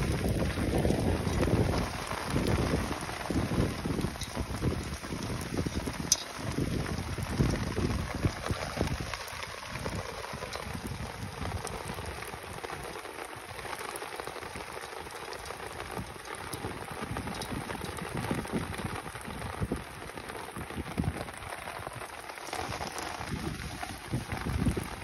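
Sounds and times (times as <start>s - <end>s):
rain falling on water: 0.0s - 25.0s.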